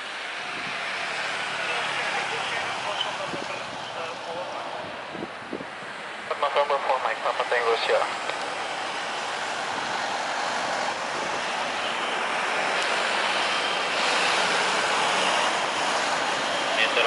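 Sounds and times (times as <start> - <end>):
jet engines rushing: 0.2 - 17.0.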